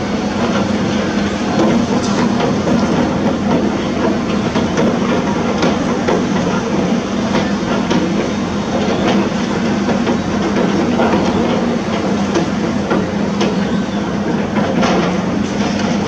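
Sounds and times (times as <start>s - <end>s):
construction machinery droning: 0.0s - 16.0s
knocks and clanks: 0.4s - 16.0s.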